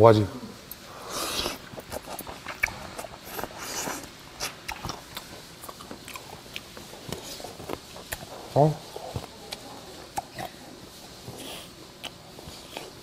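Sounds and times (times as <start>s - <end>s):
chewing and mouth smacking: 0.7s - 13.0s.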